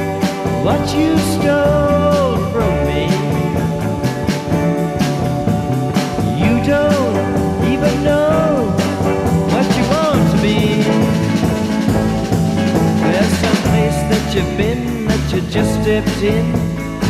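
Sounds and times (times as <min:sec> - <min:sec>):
rock music instrumental: 0:00.0 - 0:17.0.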